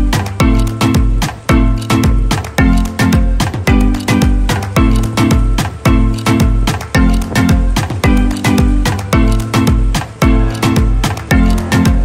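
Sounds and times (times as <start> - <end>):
music with punchy beat: 0.0 - 12.0.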